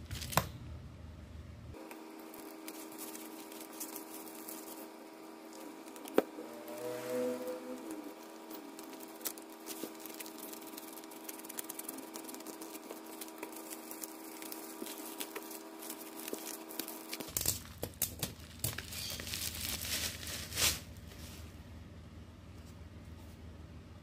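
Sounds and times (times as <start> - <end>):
bubble wrap crinkling: 0.0 - 0.5, 1.8 - 7.0, 7.7 - 21.6.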